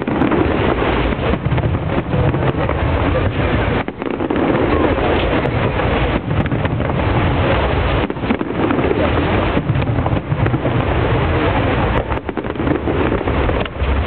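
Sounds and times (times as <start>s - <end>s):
fireworks rumbling and crackling: 0.0s - 14.0s
wind buffeting microphone: 0.0s - 14.0s.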